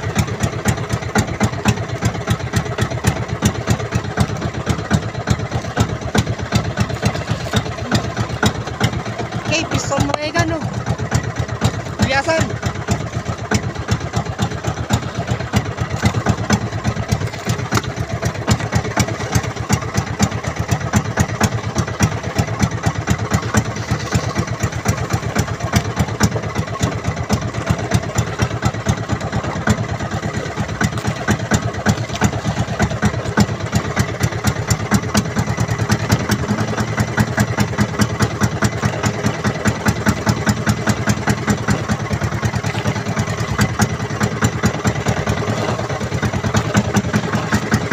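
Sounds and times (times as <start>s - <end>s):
boat engine chugging: 0.0s - 47.9s.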